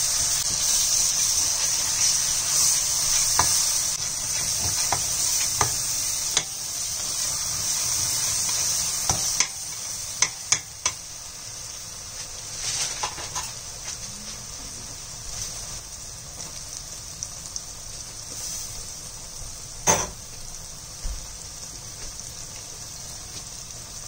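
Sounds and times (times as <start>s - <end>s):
masala sizzling in frying pan: 0.0s - 24.0s.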